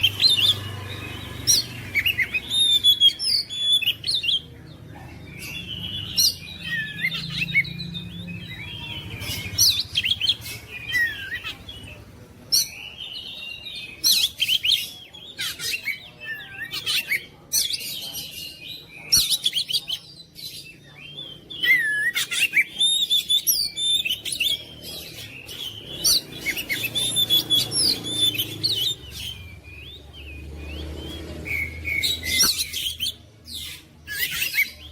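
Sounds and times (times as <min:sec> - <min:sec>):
bird singing whistles and trills: 0:00.0 - 0:04.4, 0:05.4 - 0:12.0, 0:12.6 - 0:34.9.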